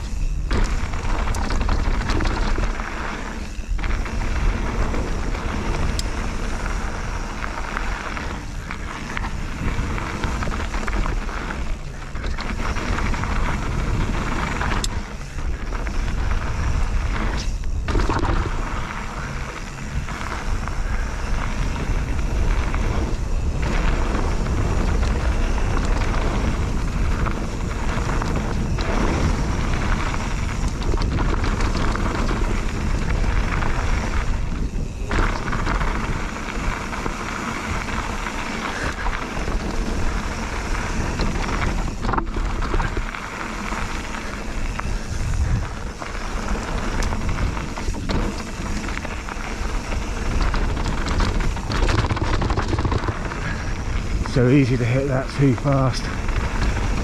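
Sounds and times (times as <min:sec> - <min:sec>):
mountain bike tyre and frame noise: 0:00.0 - 0:57.0
wind buffeting microphone: 0:00.0 - 0:57.0.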